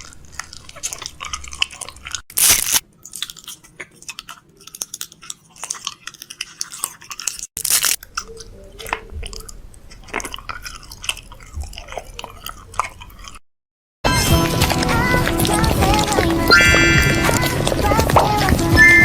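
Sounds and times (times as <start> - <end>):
crunchy chewing: 0.0 - 13.4, 14.1 - 19.0.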